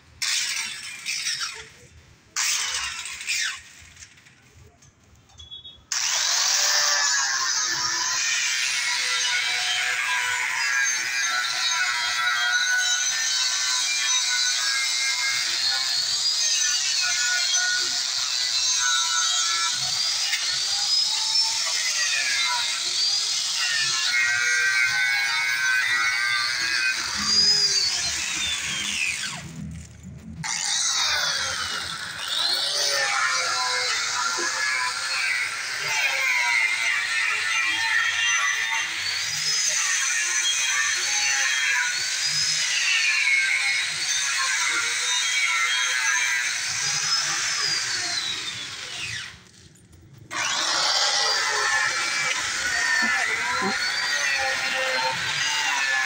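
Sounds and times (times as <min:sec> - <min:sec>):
power tool whining: 0:00.2 - 0:04.6, 0:05.9 - 0:56.0.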